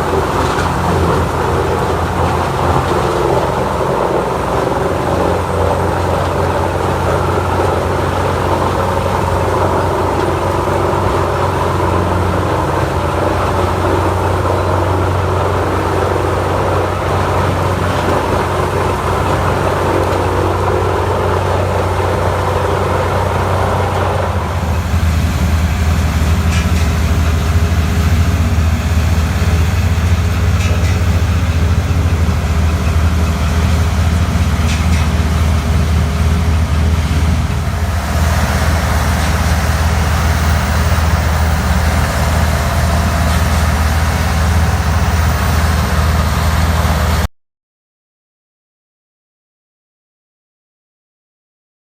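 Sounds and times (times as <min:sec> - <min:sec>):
diesel engine droning: 0:00.0 - 0:47.3
rushing grinding noise: 0:00.0 - 0:47.3.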